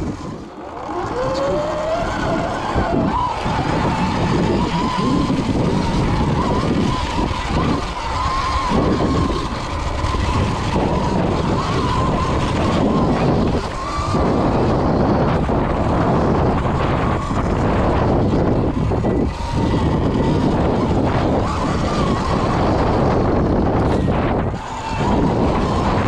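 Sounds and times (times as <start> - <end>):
electric motor whining: 0.0 - 26.0
wind noise: 0.0 - 26.0.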